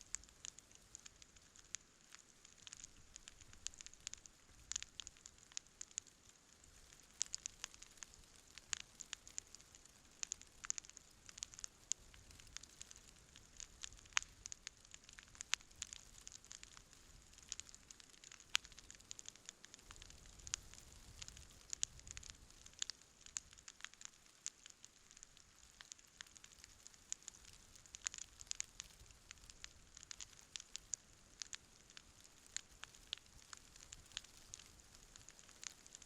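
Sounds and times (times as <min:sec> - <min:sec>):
campfire crackling: 0:00.0 - 0:36.0
low hiss: 0:00.0 - 0:36.0.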